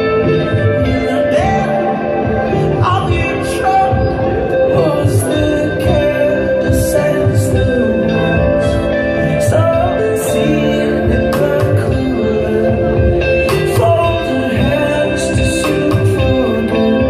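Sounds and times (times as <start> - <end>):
bass guitar: 0.0 - 17.0
drums: 0.0 - 17.0
electric guitars: 0.0 - 17.0.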